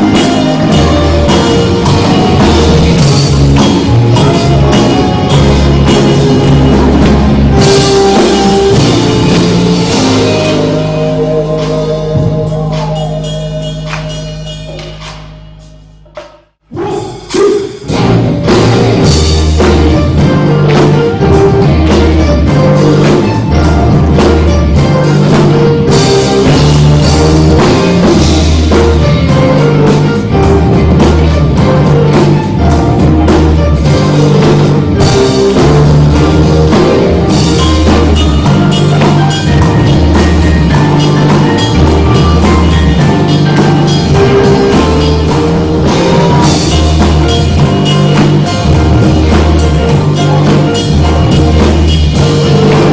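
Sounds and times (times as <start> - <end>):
repeating bass line: 0.0 - 16.2, 17.8 - 52.9
drum kit steady beat: 0.0 - 52.9.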